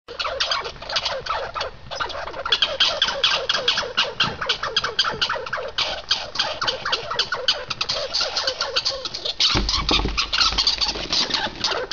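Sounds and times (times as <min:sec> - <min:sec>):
squirrel chattering: 0:00.1 - 0:11.9.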